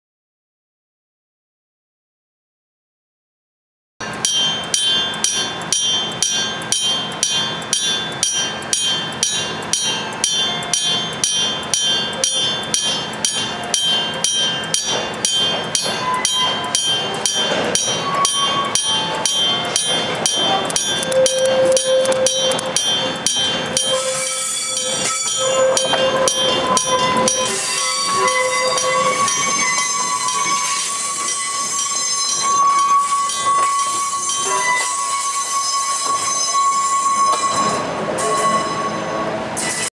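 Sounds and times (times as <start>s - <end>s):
freight train rumble: 4.0s - 39.9s
level crossing warning bell clanging: 4.0s - 39.9s
long squealing tones: 5.1s - 39.9s.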